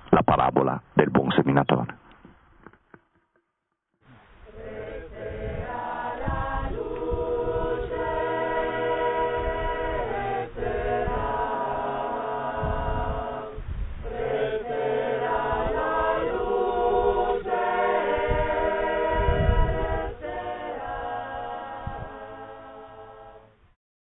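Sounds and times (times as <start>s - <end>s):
choir singing a cappella: 4.4s - 23.6s.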